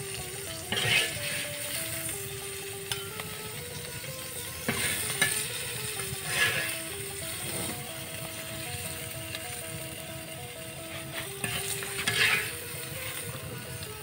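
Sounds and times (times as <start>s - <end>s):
fried vegetables sizzling: 0.0s - 14.0s
slow background melody: 0.0s - 14.0s.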